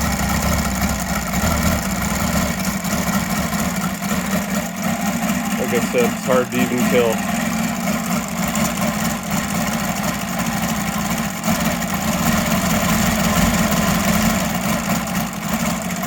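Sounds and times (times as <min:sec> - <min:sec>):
radial engine idling: 0:00.0 - 0:16.0.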